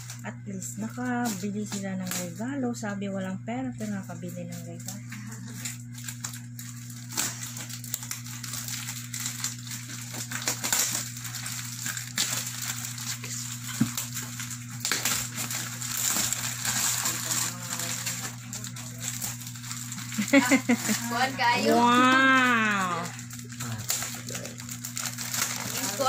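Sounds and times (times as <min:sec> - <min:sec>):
wrapping paper tearing and crumpling: 0:00.0 - 0:02.8, 0:03.8 - 0:26.0
steady low hum: 0:00.0 - 0:26.0.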